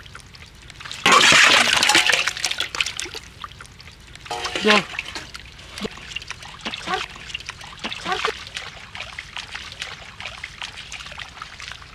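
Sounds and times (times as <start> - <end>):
feet splashing through water: 0.0 - 11.9.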